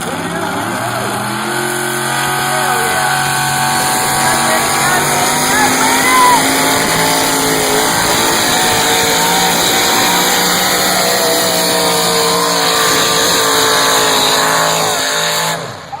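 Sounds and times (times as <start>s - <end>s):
pulling vehicle engine at full power: 0.0s - 16.0s.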